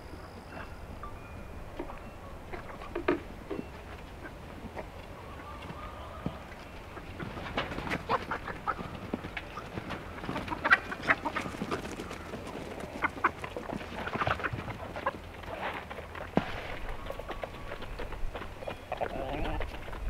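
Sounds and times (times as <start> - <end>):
chickens clucking: 0.1 - 20.0.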